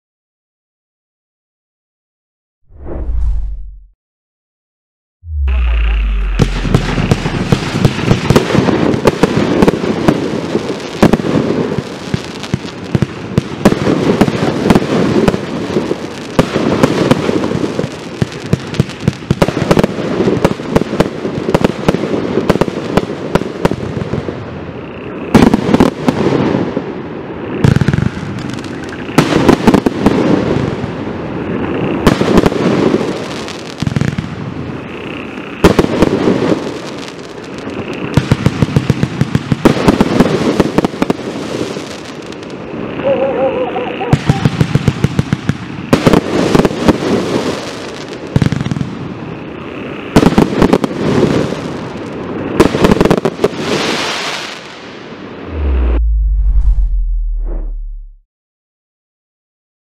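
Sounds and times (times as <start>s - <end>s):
fireworks shots bursting and crackling: 5.3s - 56.0s.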